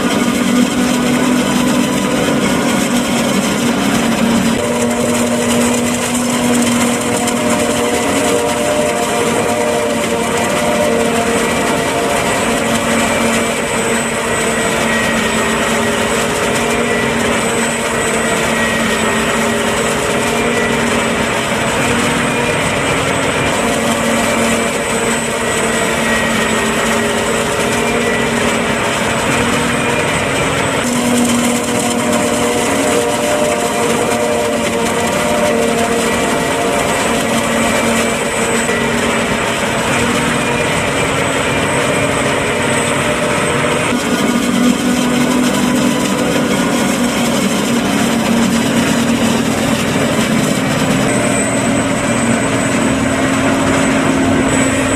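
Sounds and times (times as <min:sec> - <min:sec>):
forage harvester engine running: 0:00.0 - 0:54.9
whining tones: 0:00.0 - 0:54.9.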